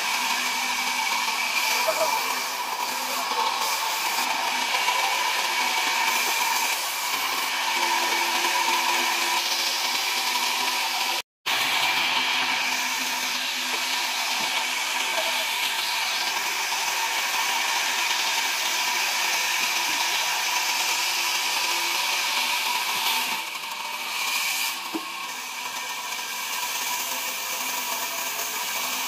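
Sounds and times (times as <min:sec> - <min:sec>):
band saw cutting log: 0:00.0 - 0:29.0.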